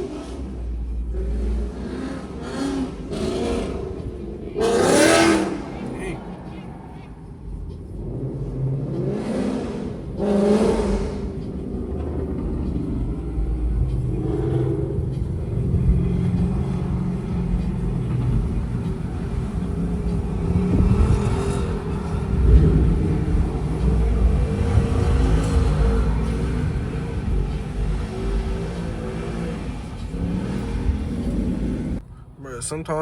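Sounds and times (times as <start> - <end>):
car engine revving: 0.0 - 32.1.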